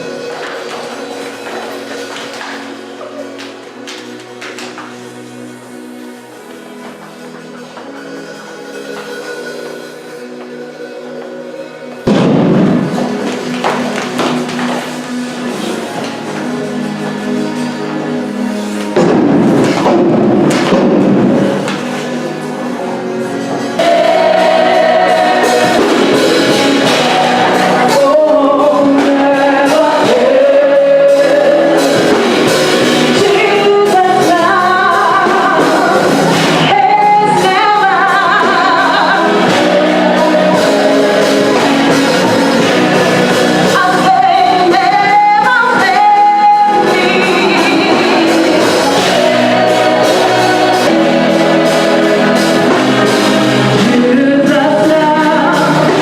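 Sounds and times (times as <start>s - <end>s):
choral gospel singing: 0.0s - 56.0s.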